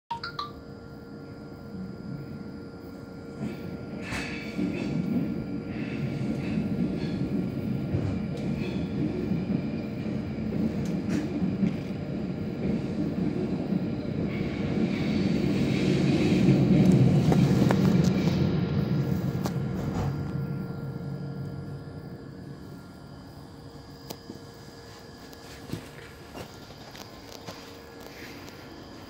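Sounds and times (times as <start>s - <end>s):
train rumbling along track: 0.8s - 29.0s.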